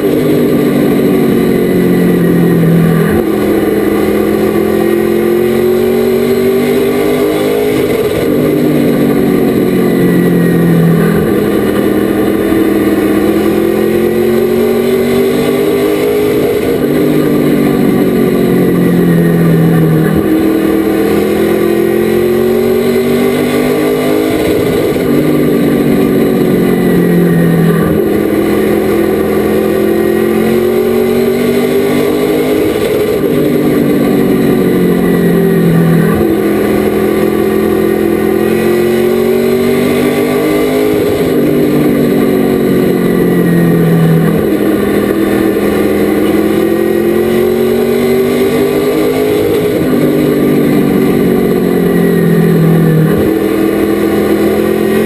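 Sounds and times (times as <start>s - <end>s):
race truck engine revving: 0.0s - 55.0s.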